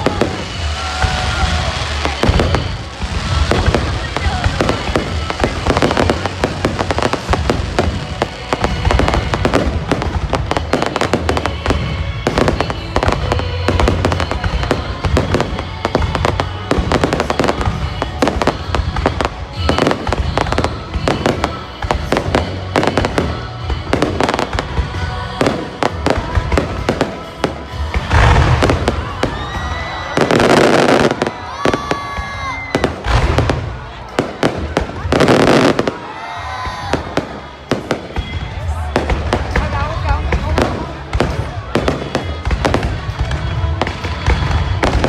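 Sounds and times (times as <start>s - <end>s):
fireworks bangs and crackles: 0.0s - 45.0s
music playing: 0.0s - 45.0s.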